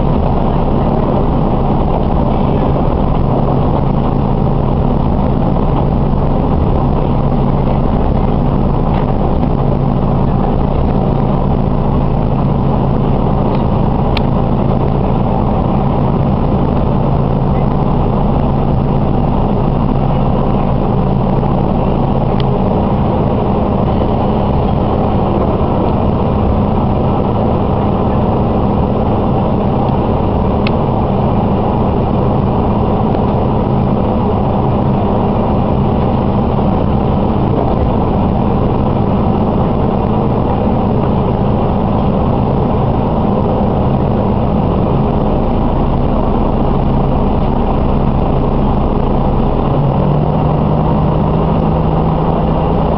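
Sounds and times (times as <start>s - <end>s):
diesel train engine idling: 0.0s - 52.9s.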